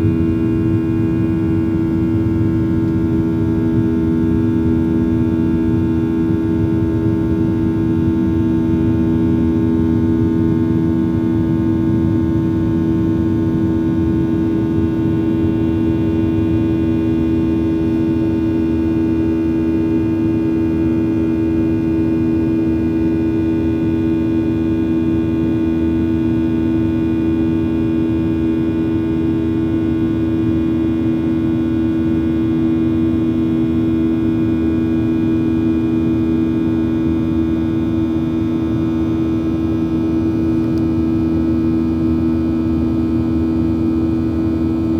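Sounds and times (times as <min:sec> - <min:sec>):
loud steady machine hum: 0:00.0 - 0:44.9.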